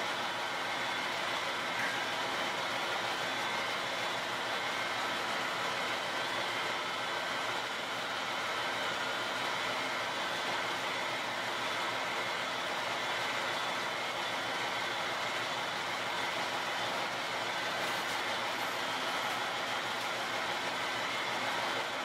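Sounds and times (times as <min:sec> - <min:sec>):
diesel railcar engine idling: 0:00.1 - 0:22.0.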